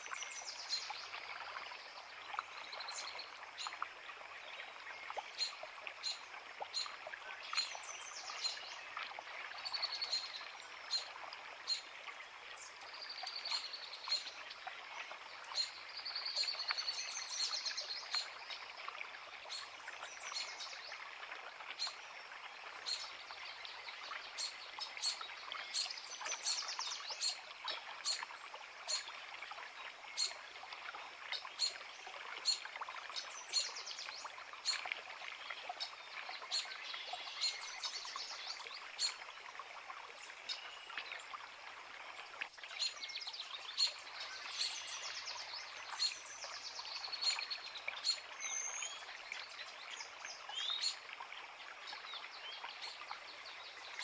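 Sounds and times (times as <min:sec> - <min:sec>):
creek running: 0:00.0 - 0:54.0.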